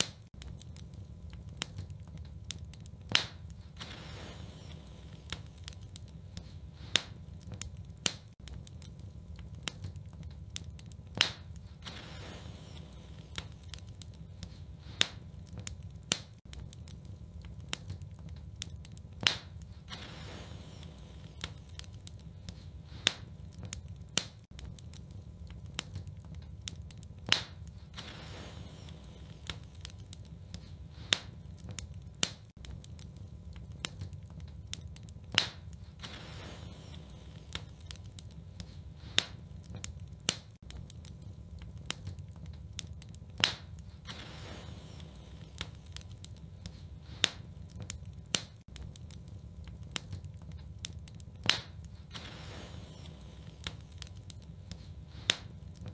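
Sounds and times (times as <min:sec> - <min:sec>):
fire popping: 0:00.0 - 0:55.9
low rumble of flame: 0:00.0 - 0:55.9
wood fire crackling: 0:00.0 - 0:55.9.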